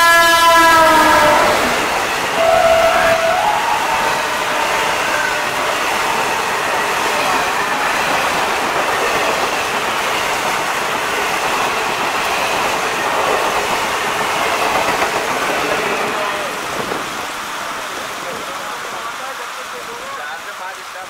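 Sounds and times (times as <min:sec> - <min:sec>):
train passing at high speed: 0:00.0 - 0:20.3.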